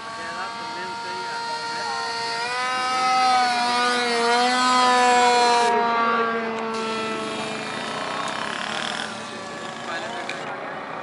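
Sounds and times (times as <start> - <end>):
model airplane motor buzzing: 0.0 - 11.0.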